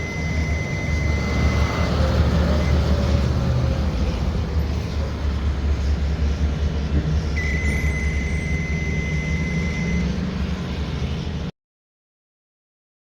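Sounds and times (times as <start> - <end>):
snowplow engine rumbling: 0.0 - 11.5.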